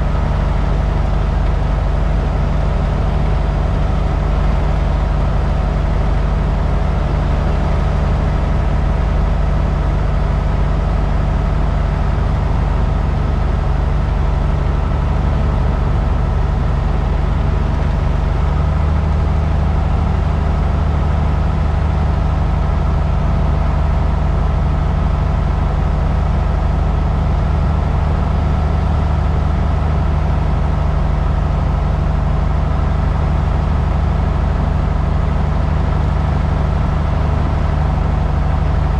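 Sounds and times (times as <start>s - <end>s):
light aircraft engine in cabin: 0.0s - 38.9s.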